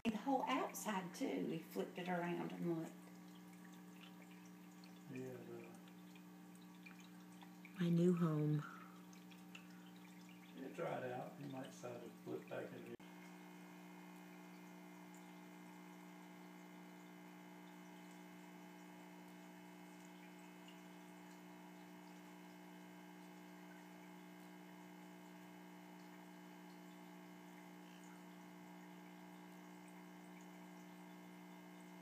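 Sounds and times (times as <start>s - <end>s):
faint electrical hum: 0.1s - 32.0s.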